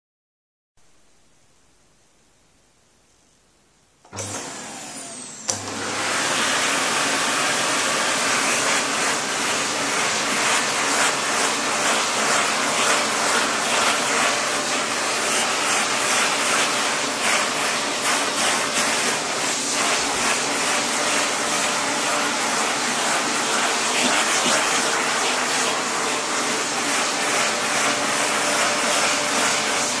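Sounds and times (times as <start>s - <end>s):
vacuum cleaner running: 4.0s - 30.0s.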